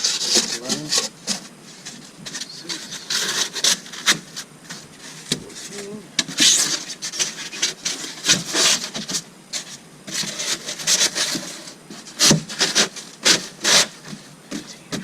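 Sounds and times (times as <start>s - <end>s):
insulation scraping on wood framing: 0.0s - 15.0s.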